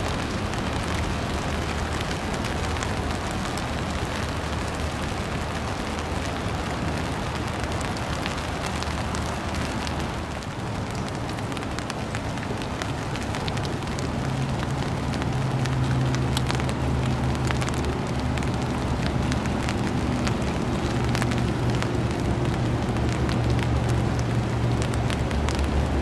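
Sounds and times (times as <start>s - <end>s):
light rain pattering on water: 0.0s - 26.0s.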